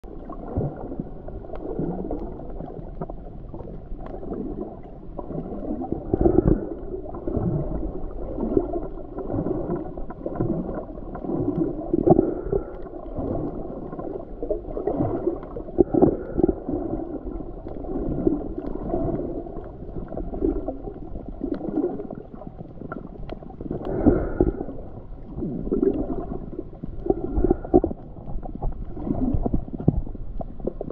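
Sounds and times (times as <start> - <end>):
muffled underwater water rushing: 0.0 - 30.9.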